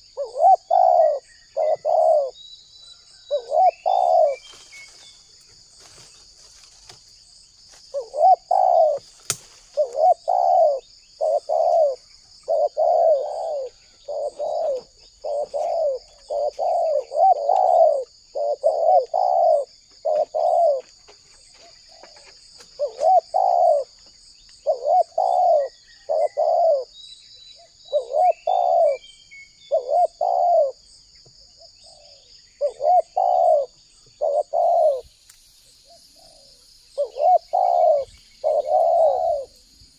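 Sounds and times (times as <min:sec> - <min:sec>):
dove cooing: 0:00.0 - 0:02.4, 0:03.1 - 0:04.6, 0:07.9 - 0:21.0, 0:21.6 - 0:24.0, 0:24.6 - 0:27.0, 0:27.6 - 0:30.9, 0:31.6 - 0:35.1, 0:35.8 - 0:39.7.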